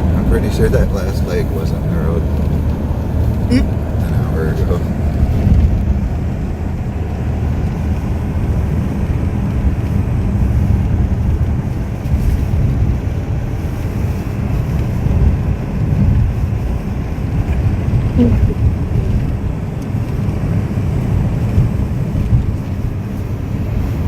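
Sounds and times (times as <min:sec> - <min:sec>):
road and engine rumble: 0:00.0 - 0:24.0
wind noise: 0:00.0 - 0:24.0.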